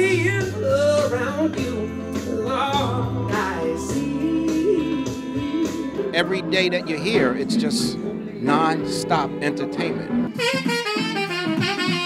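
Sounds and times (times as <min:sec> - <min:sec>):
person singing: 0:00.0 - 0:10.0
band music: 0:00.0 - 0:12.0.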